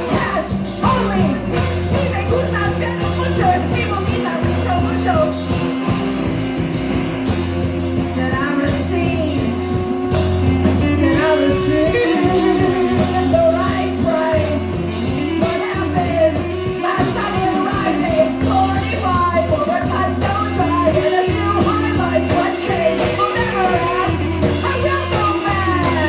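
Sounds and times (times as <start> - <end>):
person singing: 0.0 - 6.0, 8.0 - 26.0
drum beat: 0.0 - 26.0
guitar and bass: 0.0 - 26.0.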